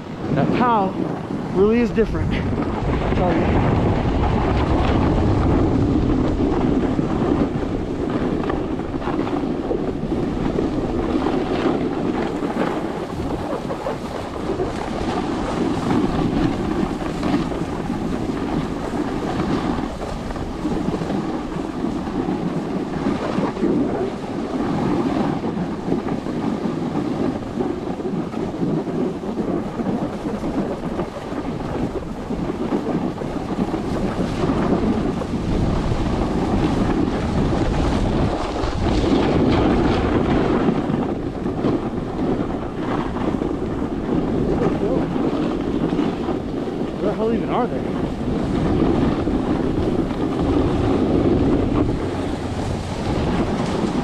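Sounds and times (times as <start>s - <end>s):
snowboard scraping over snow: 0.0s - 54.0s
wind rushing over microphone: 0.0s - 54.0s.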